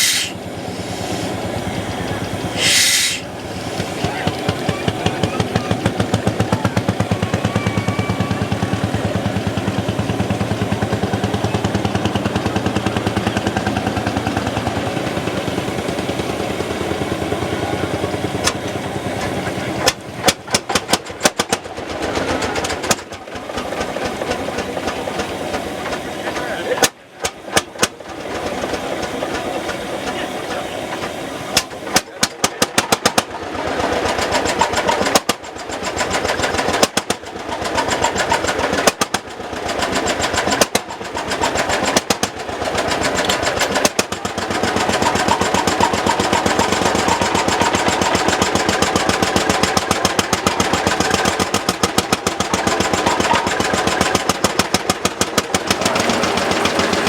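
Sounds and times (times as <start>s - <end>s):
two-stroke engine running: 0.0s - 57.0s.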